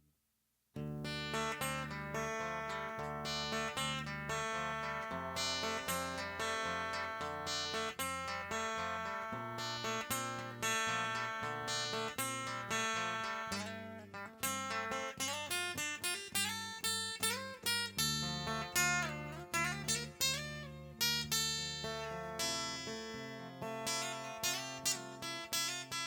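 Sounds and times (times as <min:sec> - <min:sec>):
acoustic guitar music: 0:00.8 - 0:26.0.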